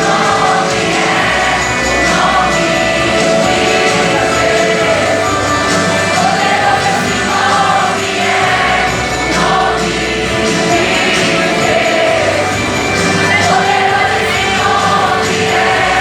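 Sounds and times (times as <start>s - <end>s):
band bass and percussion: 0.0s - 16.0s
choir singing worship song: 0.0s - 16.0s.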